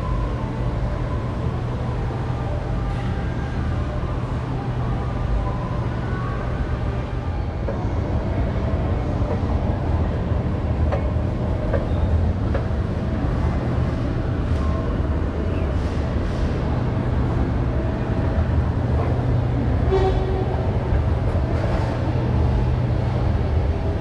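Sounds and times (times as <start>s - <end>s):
escalator machinery humming: 0.0s - 24.0s.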